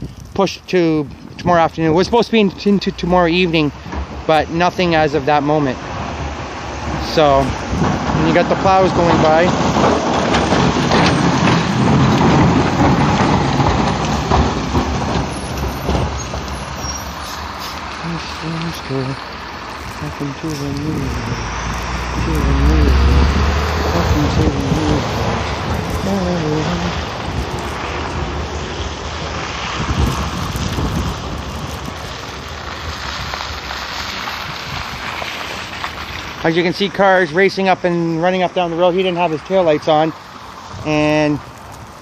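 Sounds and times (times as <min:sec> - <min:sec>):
road noise: 0:00.0 - 0:42.0
snowplow truck engine rumble: 0:00.0 - 0:42.0
wind gusting across microphone: 0:00.0 - 0:42.0.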